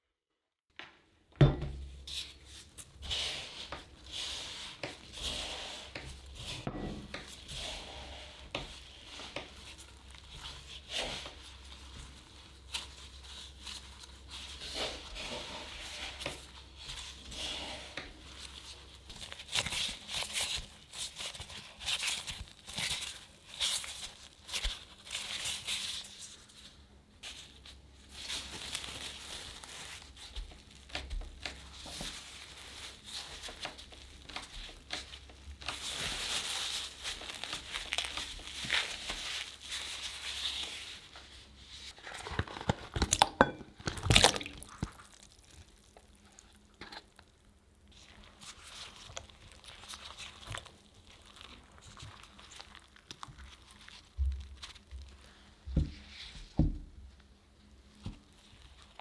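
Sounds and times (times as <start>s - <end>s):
dough crumbs rustling: 1.8s - 59.0s
plastic gloves crinkling: 1.9s - 59.0s.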